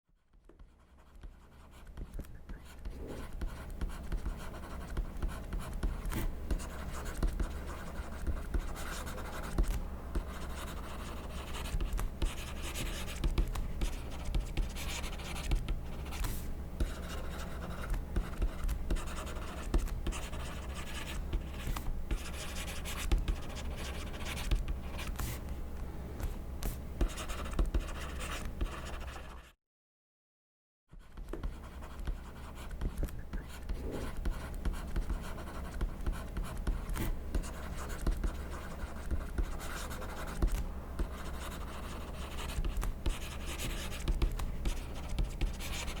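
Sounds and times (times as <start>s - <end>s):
pen scratching on paper: 0.6s - 25.4s, 26.6s - 29.5s, 31.0s - 46.0s.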